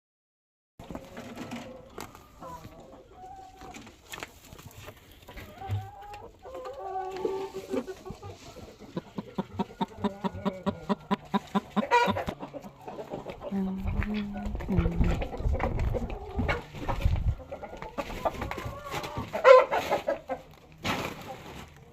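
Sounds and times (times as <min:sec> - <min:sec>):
chickens clucking: 0:00.8 - 0:21.9.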